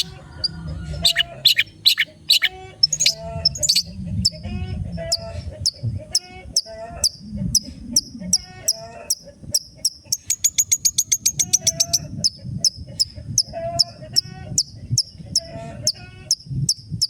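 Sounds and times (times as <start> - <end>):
harsh bird chattering: 0.0 - 16.1
shrike singing: 0.0 - 16.4.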